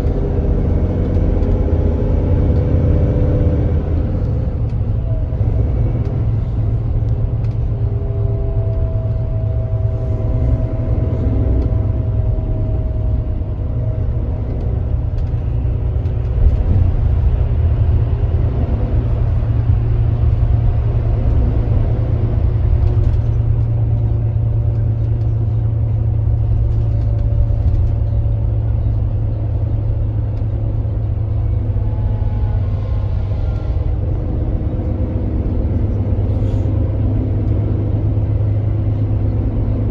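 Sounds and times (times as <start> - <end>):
bus engine droning: 0.0 - 39.9
road noise: 0.0 - 39.9.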